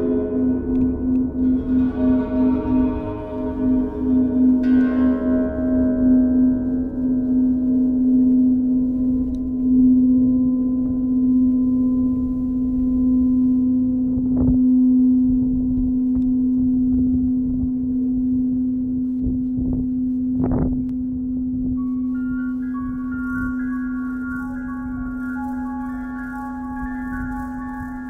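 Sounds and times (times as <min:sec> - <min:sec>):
gong humming tone: 0:00.0 - 0:17.9, 0:21.8 - 0:28.0.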